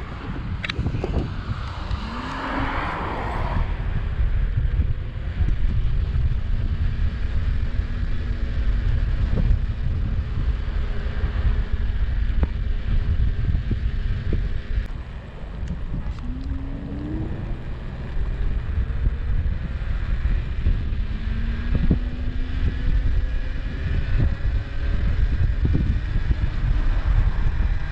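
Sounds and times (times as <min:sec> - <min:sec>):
electric scooter motors whining: 0:00.0 - 0:27.9
wind and tyre rumble: 0:00.0 - 0:27.9.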